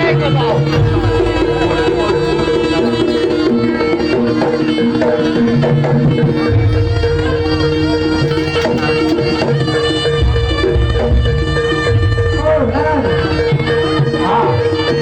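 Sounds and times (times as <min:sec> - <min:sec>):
gamelan music: 0:00.0 - 0:15.0
deep gong: 0:00.4 - 0:14.2
hand drum rhythm: 0:00.4 - 0:14.2.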